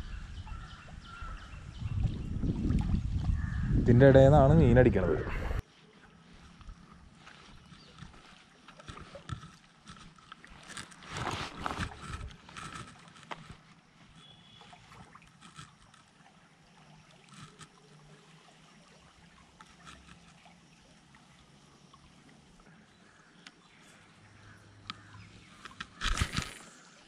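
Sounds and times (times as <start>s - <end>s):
faint water flowing and gurgling: 0.0s - 27.0s.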